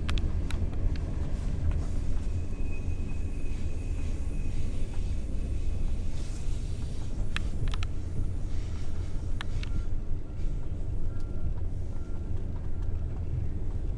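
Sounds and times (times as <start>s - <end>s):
train rumbling: 0.0s - 13.9s.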